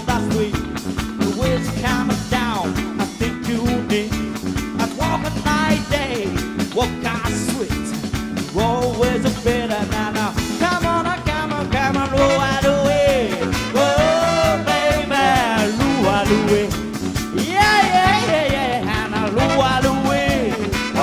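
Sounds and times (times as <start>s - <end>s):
live band playing upbeat song: 0.0s - 21.0s.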